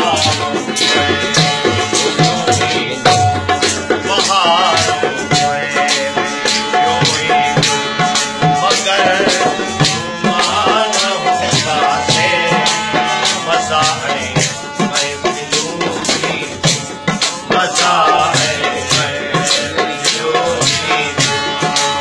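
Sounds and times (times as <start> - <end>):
hand drum beat: 0.0 - 22.0
harmonium playing: 0.0 - 22.0
rattle beat: 0.0 - 22.0.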